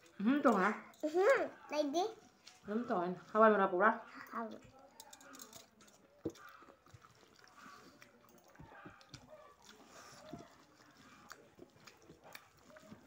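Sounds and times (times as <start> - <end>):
soft chewing and mouth clicks: 0.0 - 2.7, 4.1 - 13.0.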